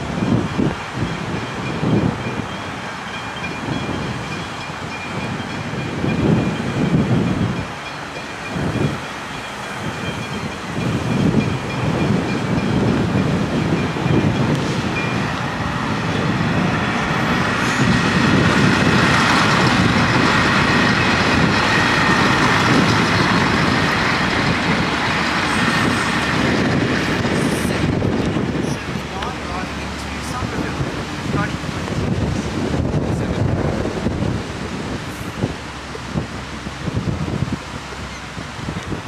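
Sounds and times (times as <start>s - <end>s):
diesel railcars passing: 0.0s - 39.0s.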